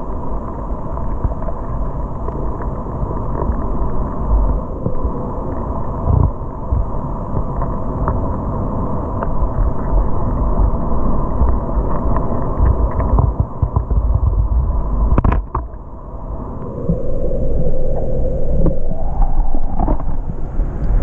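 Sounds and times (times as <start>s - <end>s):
underwater sea rumble: 0.0s - 21.0s.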